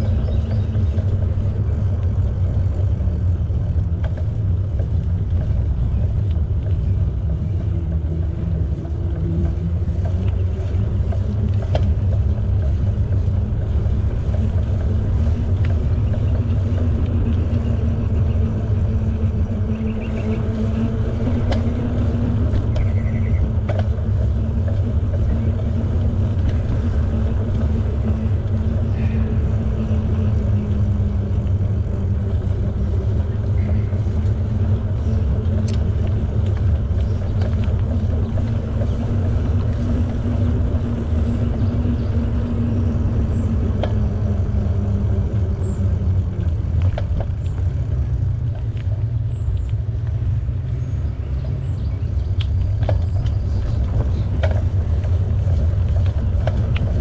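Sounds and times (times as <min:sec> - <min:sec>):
bicycle tyre noise: 0:00.0 - 0:57.0
faint ticks: 0:00.0 - 0:57.0
steady hum: 0:00.0 - 0:57.0
wind rumbling on microphone: 0:00.0 - 0:57.0.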